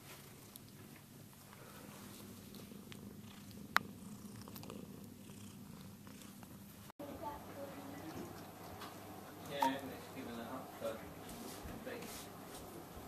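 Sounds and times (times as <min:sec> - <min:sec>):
cat purring: 0:00.0 - 0:11.6.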